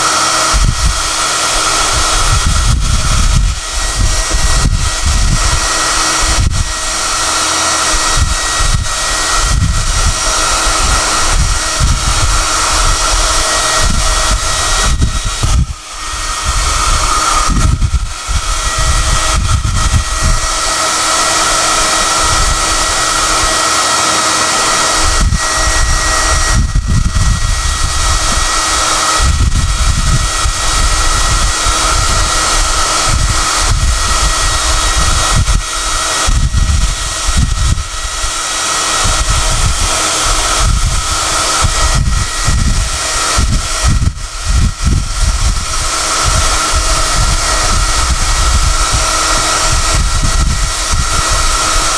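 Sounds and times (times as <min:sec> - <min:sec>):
hair dryer running with high whine: 0:00.0 - 0:51.9.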